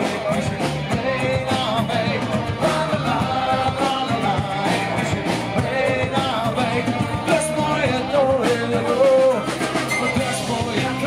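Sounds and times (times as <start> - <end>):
drum kit: 0.0 - 11.0
electric bass: 0.0 - 11.0
man singing: 0.0 - 11.0
strummed guitars: 0.0 - 11.0.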